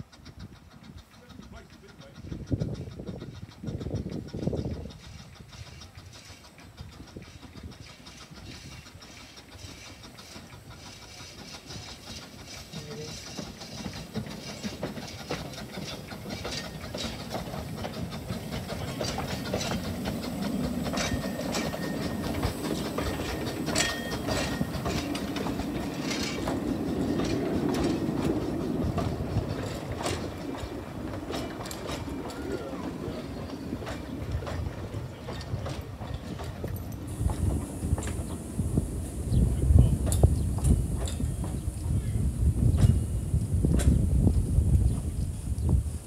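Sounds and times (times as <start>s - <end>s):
wheels clicking over rail joints: 0.0s - 45.7s
steam train running past: 0.0s - 46.0s.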